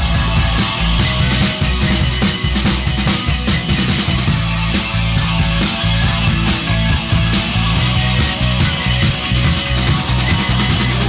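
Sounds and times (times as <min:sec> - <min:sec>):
drum and cymbal hits: 0:00.0 - 0:11.0
live rock band playing: 0:00.0 - 0:11.0
strummed guitars: 0:00.0 - 0:11.0.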